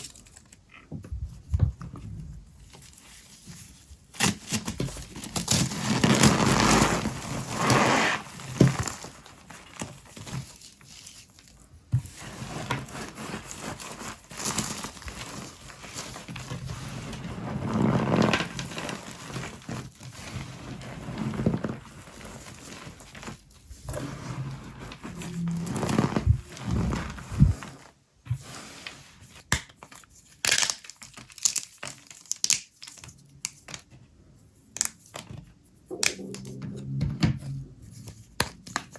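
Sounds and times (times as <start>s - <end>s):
brittle soap crackling and crunching: 0.0s - 0.9s, 2.6s - 34.0s.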